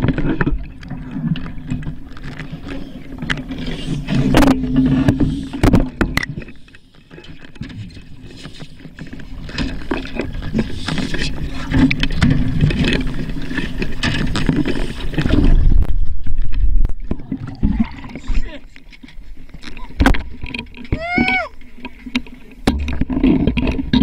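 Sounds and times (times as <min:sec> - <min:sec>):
underwater knocks and clicks: 0:00.0 - 0:24.0.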